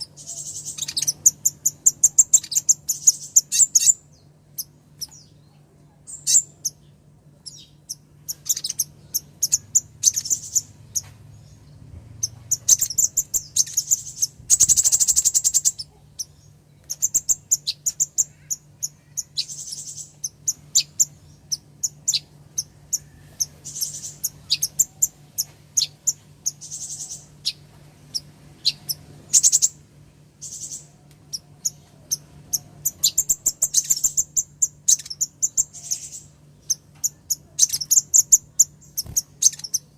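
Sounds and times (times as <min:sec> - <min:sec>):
sunbird high thin chirps: 0:00.0 - 0:05.4, 0:06.1 - 0:06.8, 0:07.4 - 0:11.6, 0:12.2 - 0:29.8, 0:30.4 - 0:39.9
faint low hum: 0:00.0 - 0:39.9.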